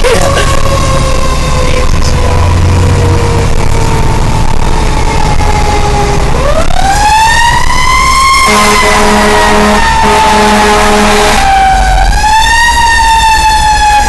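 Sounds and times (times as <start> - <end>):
fire engine siren wailing: 0.0 - 14.0
truck engine rumble: 0.0 - 14.0.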